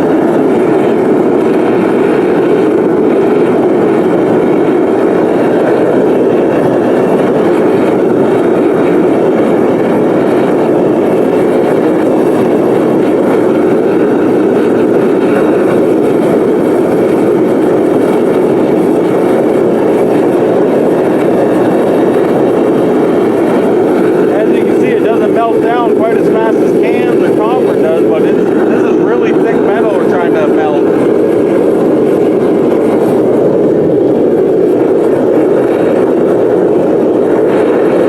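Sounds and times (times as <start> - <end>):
furnace burner roaring: 0.0 - 38.0.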